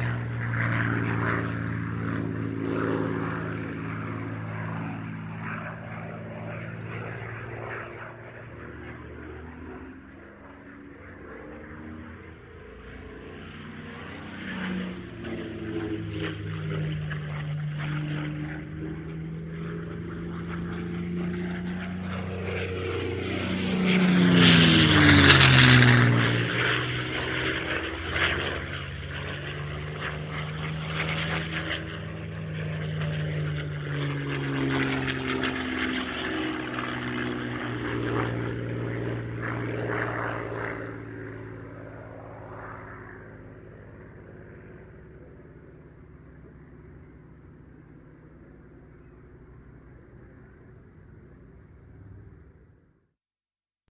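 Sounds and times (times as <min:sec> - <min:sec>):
propeller plane flying past: 0:00.0 - 0:53.2.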